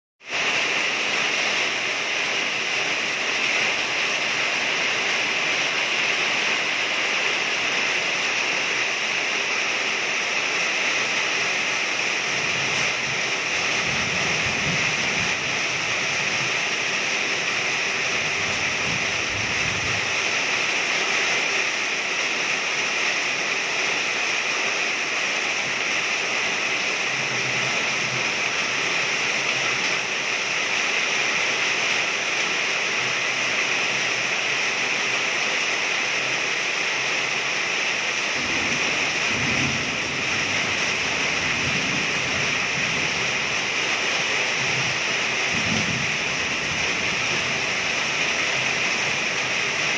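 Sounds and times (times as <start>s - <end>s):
heavy rain on corrugated roof: 0.2s - 49.9s.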